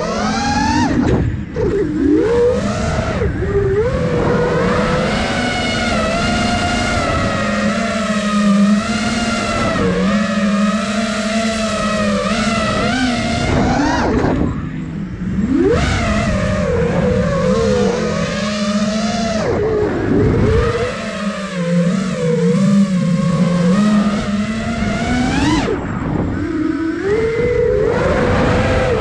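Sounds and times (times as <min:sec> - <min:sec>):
drone propellers whining: 0:00.0 - 0:29.0.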